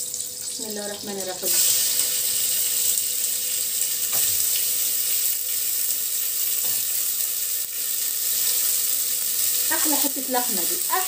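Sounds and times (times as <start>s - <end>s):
meat sizzling in a pot: 0.0s - 11.0s.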